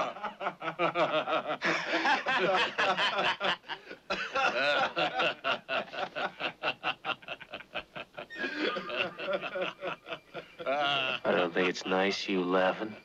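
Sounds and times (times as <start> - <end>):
men laughing mockingly: 0.0 - 11.7.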